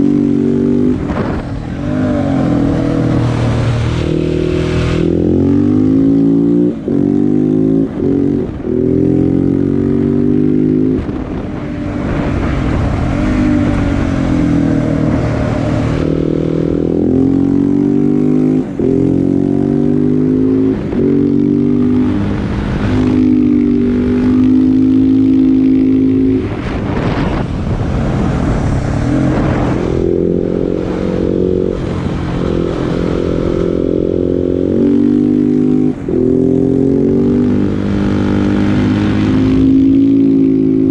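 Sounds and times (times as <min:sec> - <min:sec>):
wind rush: 0:00.0 - 0:19.5, 0:20.6 - 0:35.0, 0:35.9 - 0:40.9
motorcycle engine revving: 0:00.0 - 0:40.9.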